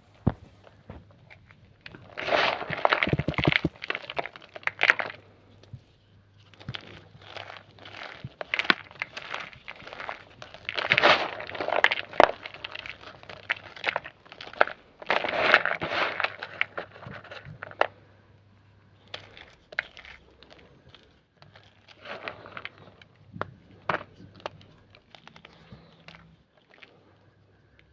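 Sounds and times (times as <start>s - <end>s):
chalk crunching and cracking: 0.1s - 18.0s, 19.0s - 27.9s.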